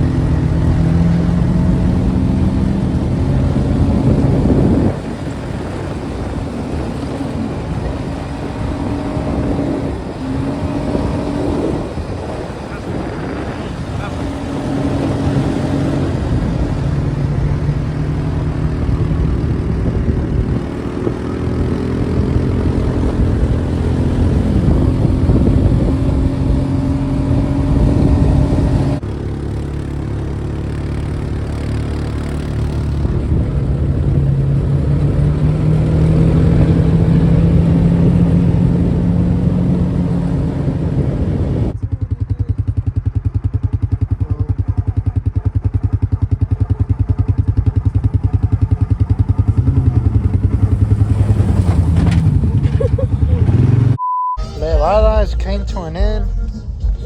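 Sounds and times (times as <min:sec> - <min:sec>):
vehicle engine revving: 0:00.0 - 0:41.8, 0:42.6 - 0:54.0.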